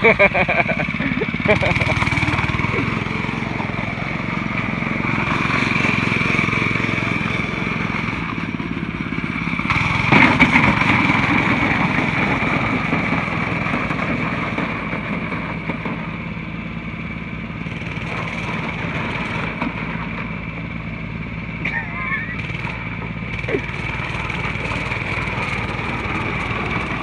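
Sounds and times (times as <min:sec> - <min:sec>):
small gasoline engine running: 0:00.0 - 0:27.0.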